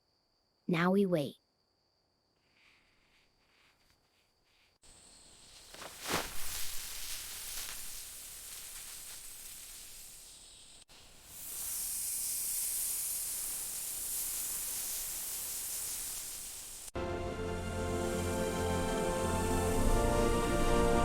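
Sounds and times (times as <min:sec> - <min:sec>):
steady hissing noise: 0:02.4 - 0:21.0.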